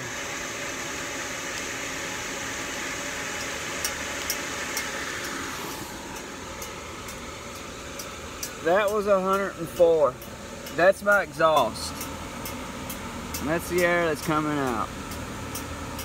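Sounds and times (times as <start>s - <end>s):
fan rushing air: 0.0s - 16.0s.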